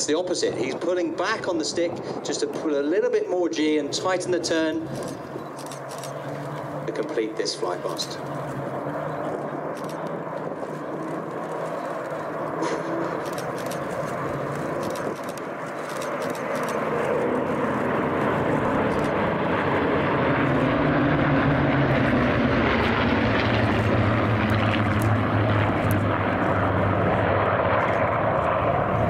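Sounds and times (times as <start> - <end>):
propeller planes droning overhead: 0.0 - 29.0.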